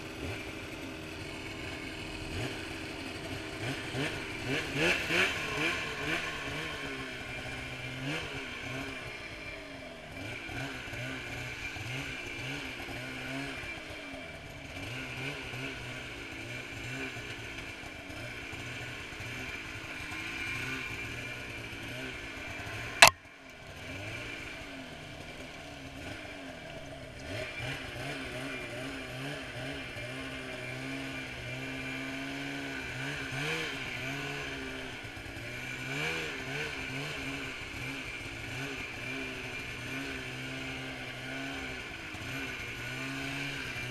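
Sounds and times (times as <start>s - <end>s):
snowmobile engine revving: 0.0s - 23.1s, 23.7s - 43.9s.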